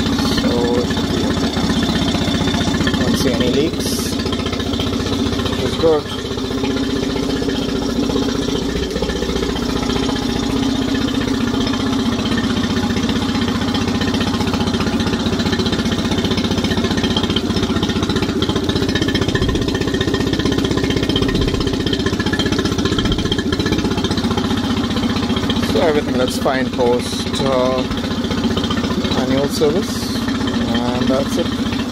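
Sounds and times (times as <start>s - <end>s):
outboard motor idling: 0.0s - 31.9s.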